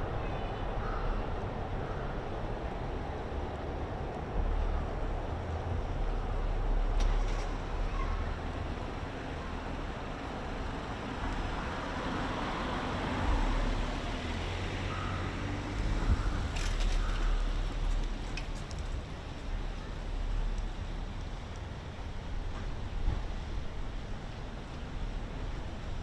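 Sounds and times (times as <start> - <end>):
city road traffic hum: 0.0 - 26.0.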